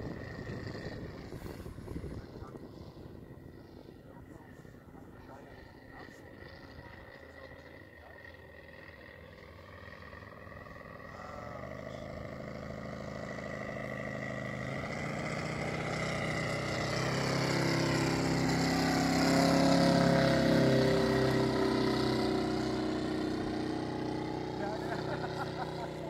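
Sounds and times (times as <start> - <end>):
model aircraft engine droning: 0.0 - 26.0.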